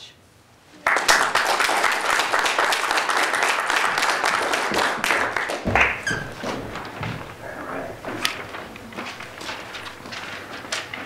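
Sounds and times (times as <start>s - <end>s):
audience applauding: 0.8s - 10.4s.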